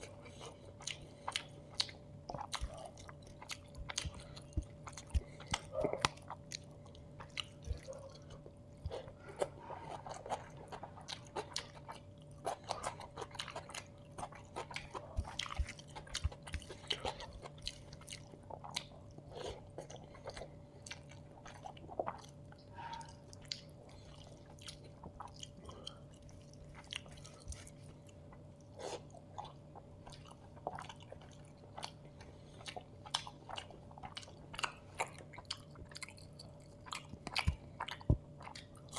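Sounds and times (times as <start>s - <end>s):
faint steady hum: 0.0s - 38.9s
person chewing and eating: 0.0s - 38.9s.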